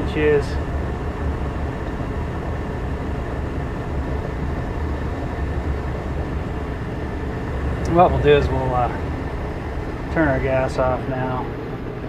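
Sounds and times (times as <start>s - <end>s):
gas furnace burners rumbling: 0.0s - 12.0s.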